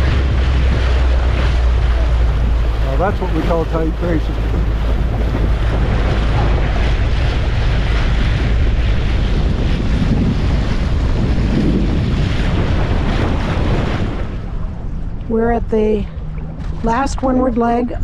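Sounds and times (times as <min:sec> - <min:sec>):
choppy water splashing: 0:00.0 - 0:18.0
wind buffeting microphone: 0:00.0 - 0:18.0.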